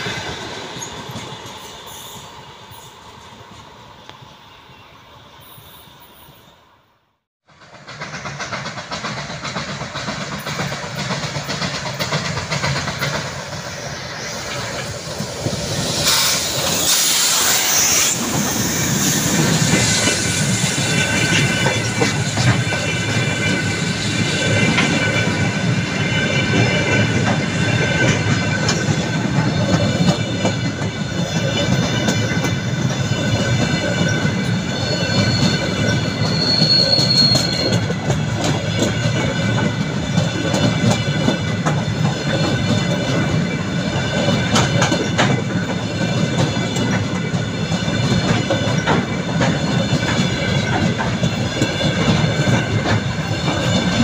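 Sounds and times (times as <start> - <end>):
train wheels rumbling and clattering: 0.0 - 4.2, 7.4 - 54.0
wheels squealing: 10.5 - 54.0.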